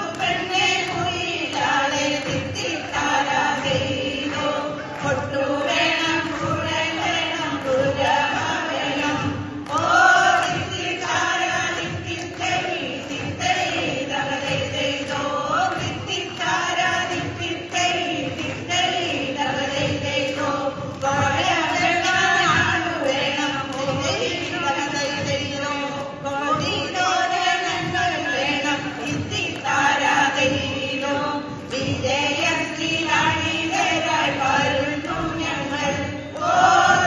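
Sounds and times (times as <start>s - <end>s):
women's choir singing: 0.0s - 37.0s.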